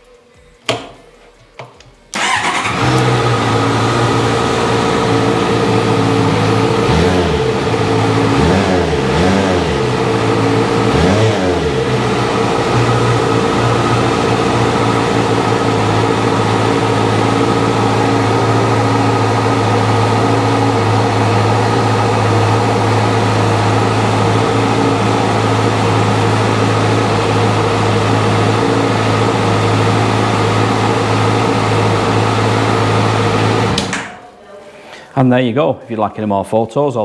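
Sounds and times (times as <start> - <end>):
motorcycle engine idling: 2.2 - 34.2.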